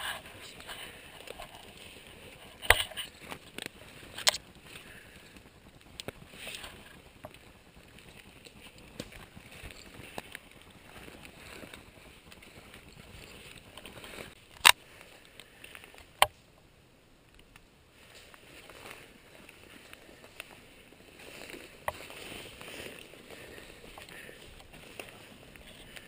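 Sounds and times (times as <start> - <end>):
rustling of leaf litter: 0.0 - 16.2, 17.9 - 26.0.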